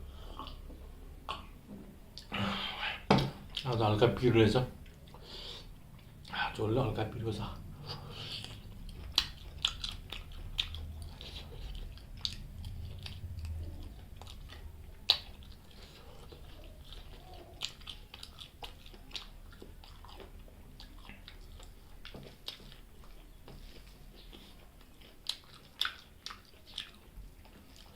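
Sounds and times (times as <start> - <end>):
person chewing food: 0.0 - 3.9, 4.7 - 27.9.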